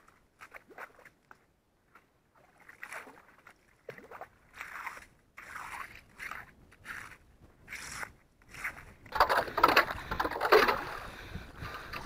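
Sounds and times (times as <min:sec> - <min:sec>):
slush and water sloshing: 0:01.9 - 0:12.0.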